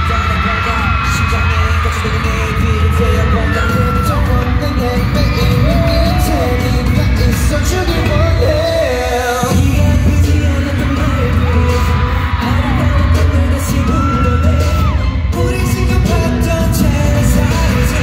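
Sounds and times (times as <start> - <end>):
pop concert music: 0.0 - 18.0.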